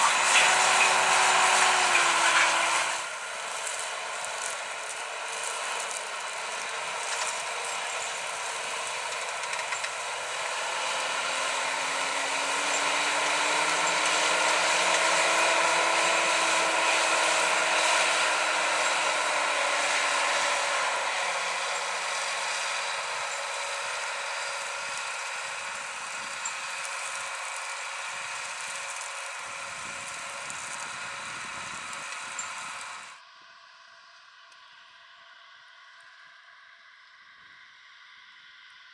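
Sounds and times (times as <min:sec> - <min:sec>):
tractor diesel engine under load: 0:00.0 - 0:33.2.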